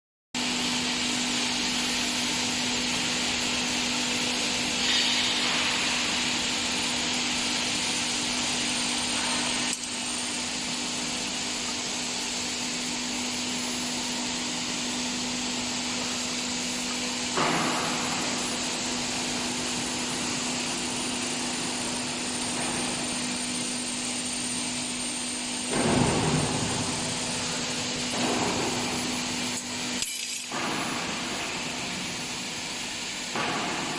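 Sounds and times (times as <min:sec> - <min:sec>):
constant machine noise: 0:00.4 - 0:33.9
electrical hum with high whine: 0:00.4 - 0:33.9.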